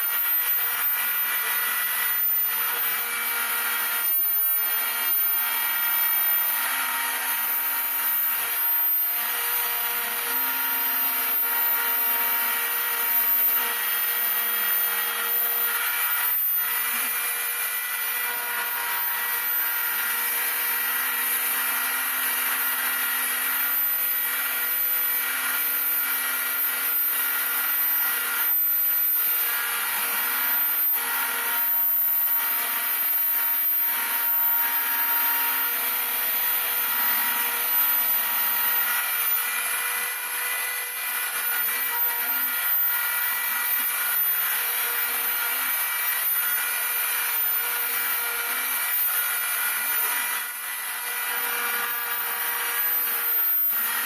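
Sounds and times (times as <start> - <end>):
cnc spindle whining: 0.0 - 54.0.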